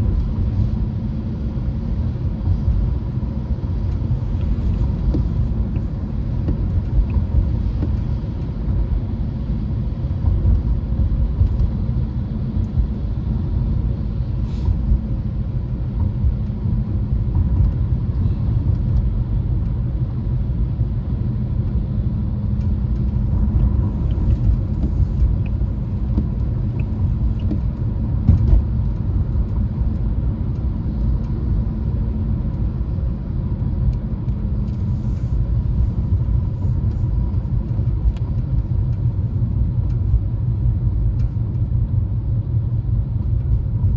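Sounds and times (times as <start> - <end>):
car driving rumble: 0.0 - 43.9.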